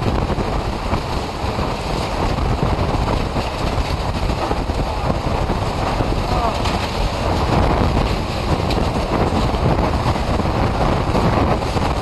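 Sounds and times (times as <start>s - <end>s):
strong wind buffeting microphone: 0.0s - 12.0s
wind-driven rain: 0.0s - 12.0s.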